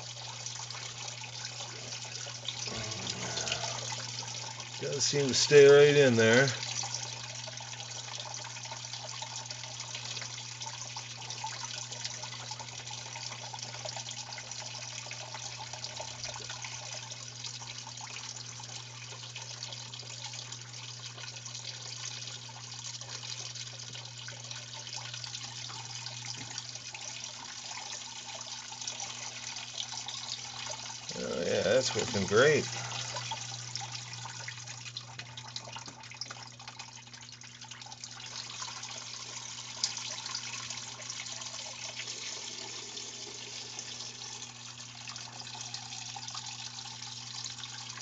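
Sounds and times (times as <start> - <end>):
water pouring and trickling: 0.0 - 48.0.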